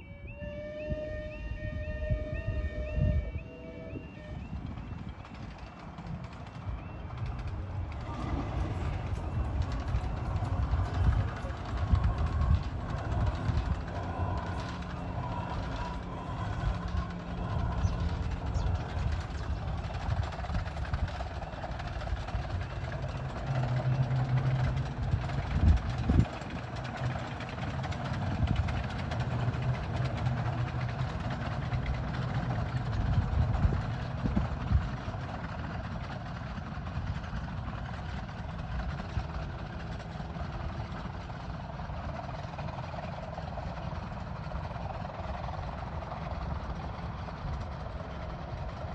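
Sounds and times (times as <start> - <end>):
miniature train rumbling: 0.0 - 48.9.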